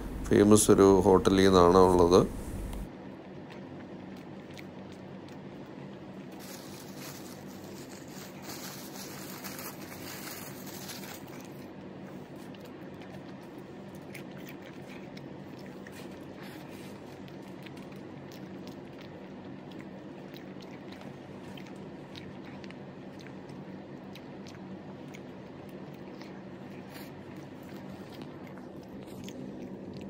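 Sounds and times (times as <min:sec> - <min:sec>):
steady low hum: 0:00.0 - 0:30.0
chewing: 0:02.7 - 0:30.0.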